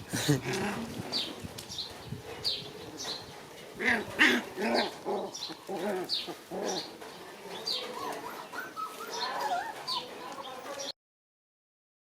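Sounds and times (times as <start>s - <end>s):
birds chirping: 0.1s - 10.9s
birds warbling: 0.2s - 10.9s.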